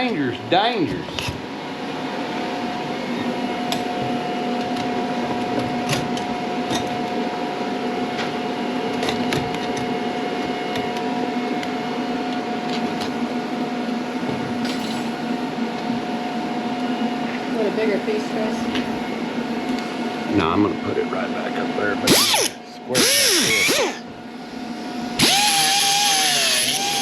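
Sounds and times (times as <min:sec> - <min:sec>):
welder electrical hum: 0:00.0 - 0:27.0.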